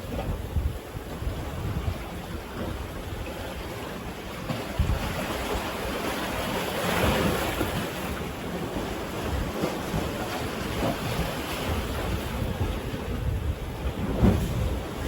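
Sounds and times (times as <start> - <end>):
sea surf washing on shore: 0.0 - 15.0
wind buffeting microphone: 0.0 - 15.0.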